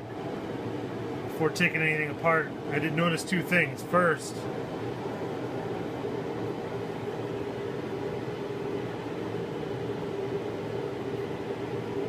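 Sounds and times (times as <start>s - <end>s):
machine humming and whooshing: 0.0s - 12.0s.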